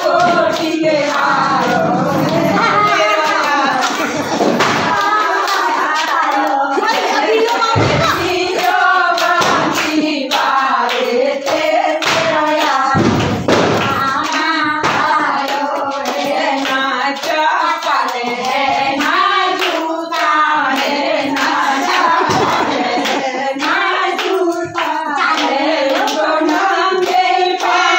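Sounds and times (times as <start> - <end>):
hands clapping: 0.0 - 27.9
women singing together: 0.0 - 27.9.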